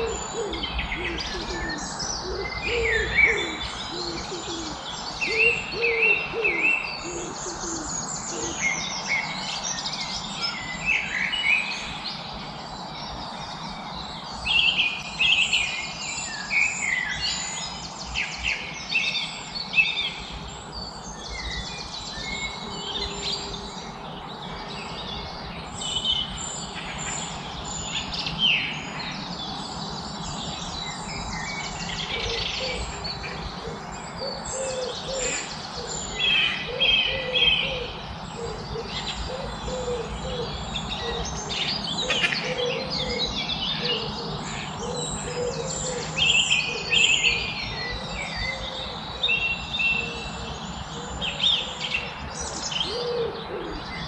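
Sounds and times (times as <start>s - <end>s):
birds chirping and singing: 0.0s - 54.0s
low repeated bird calls: 0.0s - 54.0s.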